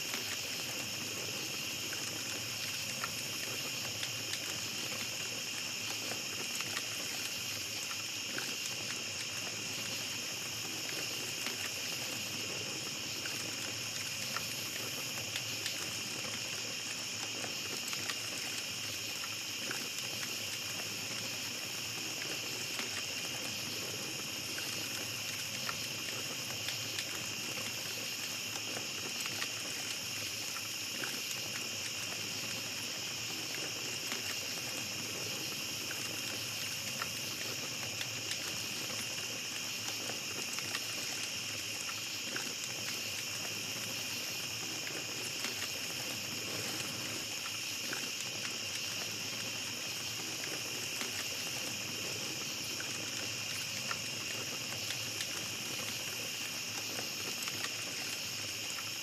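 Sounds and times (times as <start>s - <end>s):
campfire crackling: 0.0s - 59.0s
insects trilling: 0.0s - 59.0s.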